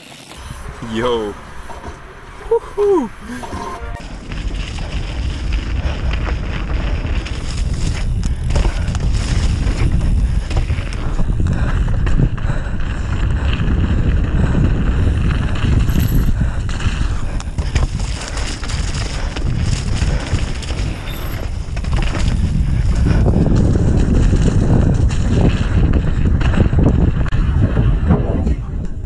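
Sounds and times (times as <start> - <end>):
bike knocking and rattling: 4.0 - 27.3
wind rush on microphone: 4.0 - 29.0.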